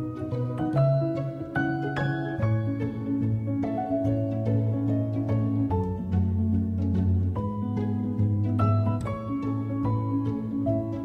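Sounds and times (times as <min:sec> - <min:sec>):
plucked string notes: 0:00.0 - 0:11.0.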